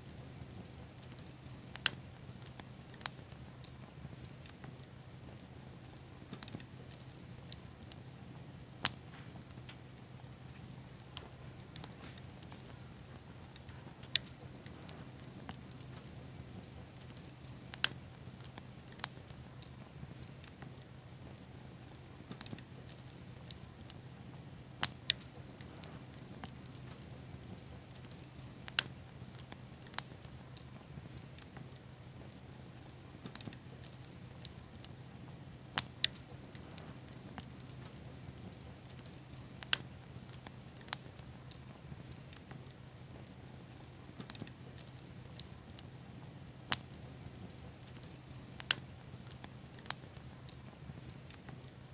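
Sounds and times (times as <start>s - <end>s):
bonfire hissing: 0.0s - 51.9s
fire crackles and pops: 0.0s - 51.9s.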